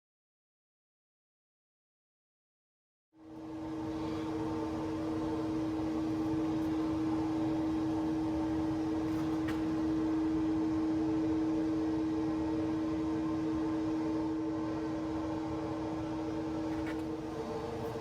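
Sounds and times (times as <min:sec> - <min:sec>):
machine motor humming: 0:03.3 - 0:18.0.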